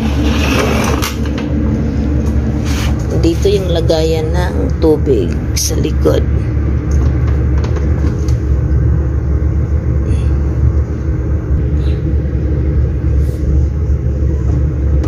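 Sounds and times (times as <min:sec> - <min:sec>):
air cooler fan rumbling: 0:00.0 - 0:15.0.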